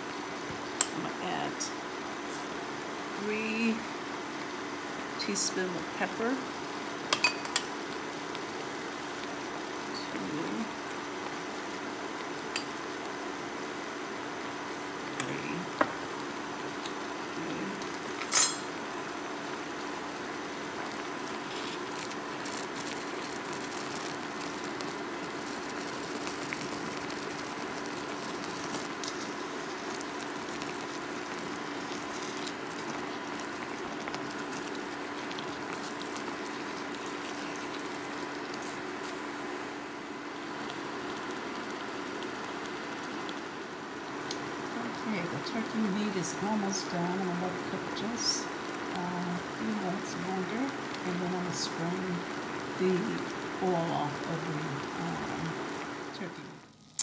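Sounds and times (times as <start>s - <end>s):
faint steady hum: 0.0s - 57.0s
meat sizzling in a skillet: 0.0s - 57.0s.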